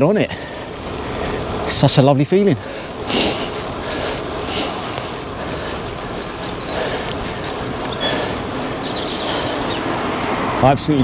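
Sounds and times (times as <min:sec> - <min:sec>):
bicycle rolling: 0:00.0 - 0:11.0
wind noise: 0:00.0 - 0:11.0.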